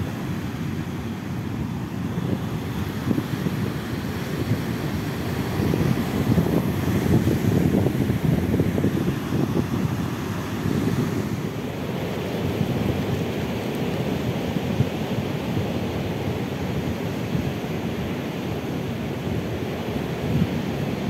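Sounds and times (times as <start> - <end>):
wind buffeting microphone: 1.3 - 21.0.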